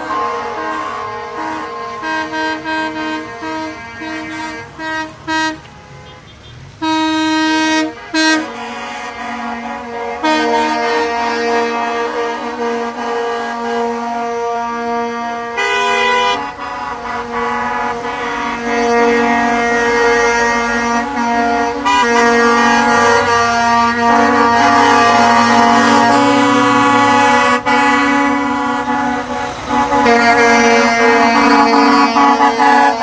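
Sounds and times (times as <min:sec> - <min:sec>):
trucks driving past: 0:00.0 - 0:33.0
vehicle horns honking: 0:00.0 - 0:33.0.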